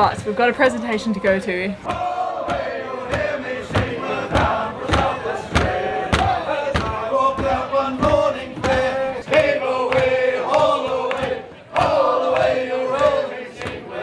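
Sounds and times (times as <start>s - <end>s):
steady beat: 1.8s - 13.9s
voices chanting together: 1.8s - 14.0s.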